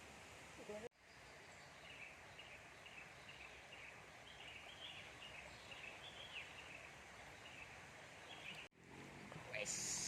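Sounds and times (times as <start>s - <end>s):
birds chirping: 0.6s - 10.0s.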